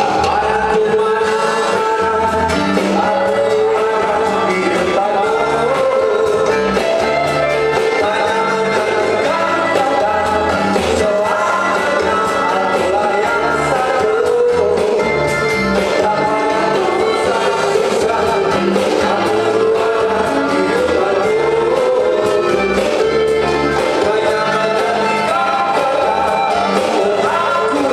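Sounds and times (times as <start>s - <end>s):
backing music track: 0.0s - 27.9s
man singing into microphone: 0.0s - 27.9s.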